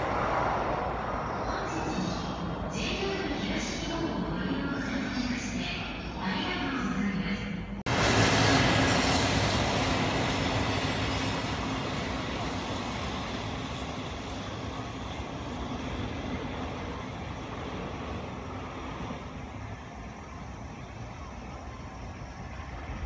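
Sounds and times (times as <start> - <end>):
freight train wheel and rail noise: 0.0 - 23.0.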